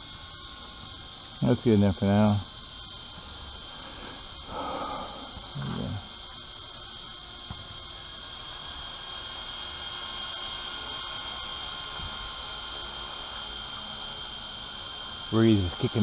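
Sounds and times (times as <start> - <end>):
rc helicopter whine: 0.0 - 16.0.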